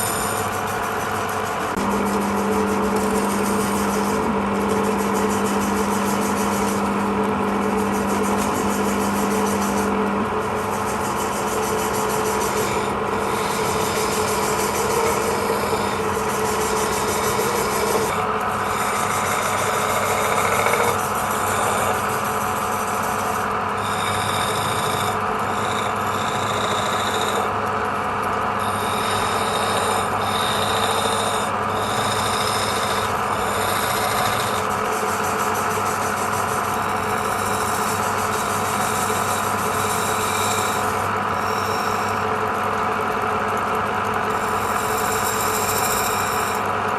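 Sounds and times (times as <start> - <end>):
turning tool scraping wood: 0.0 - 46.9
wood lathe humming: 0.0 - 46.9.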